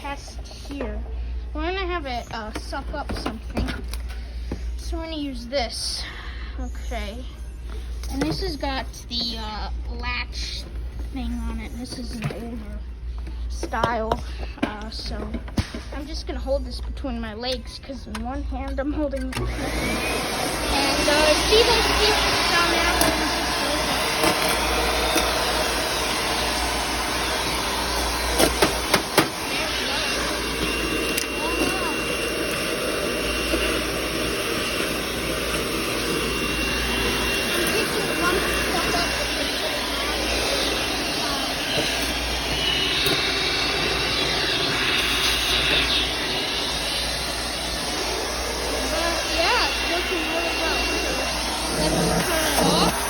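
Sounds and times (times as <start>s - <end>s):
vacuum cleaner running: 0.0s - 6.1s, 6.8s - 16.3s, 19.2s - 53.0s.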